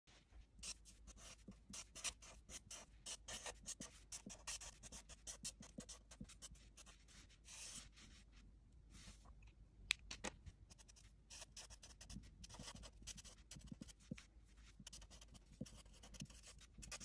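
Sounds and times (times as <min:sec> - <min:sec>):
marker writing on paper: 0:00.6 - 0:08.0, 0:10.7 - 0:17.0.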